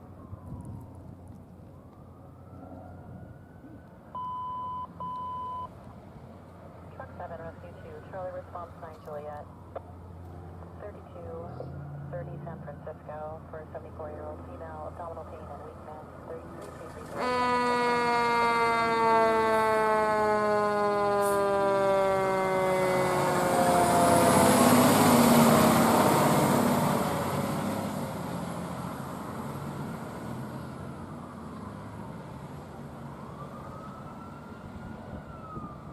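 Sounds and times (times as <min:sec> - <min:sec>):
fire engine siren wailing: 0:00.0 - 0:35.9
low engine and traffic rumble: 0:00.0 - 0:35.9.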